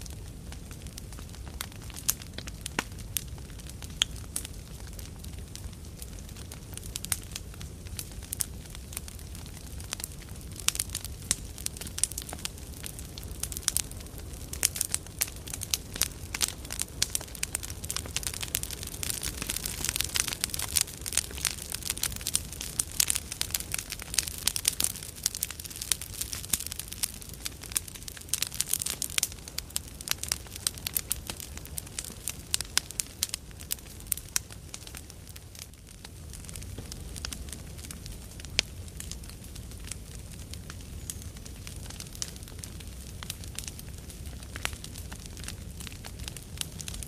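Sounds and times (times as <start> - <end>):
campfire crackling and popping: 0.0 - 47.0
low rush of flames: 0.0 - 47.0.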